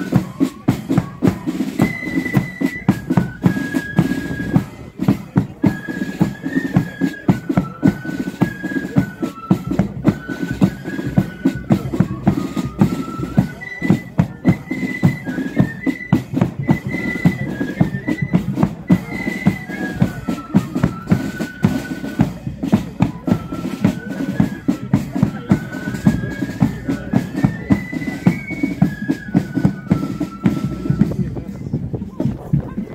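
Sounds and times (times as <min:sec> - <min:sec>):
flute melody: 0:00.0 - 0:32.9
snare and bass drums beat: 0:00.0 - 0:32.9.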